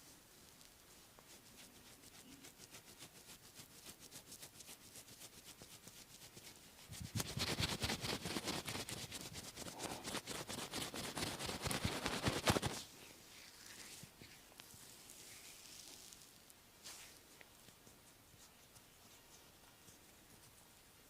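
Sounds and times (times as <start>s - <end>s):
hands stroking bare skin: 0.0s - 21.0s.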